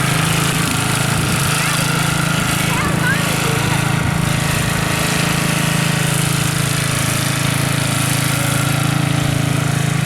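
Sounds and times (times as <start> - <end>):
riding mower engine running: 0.0 - 10.0.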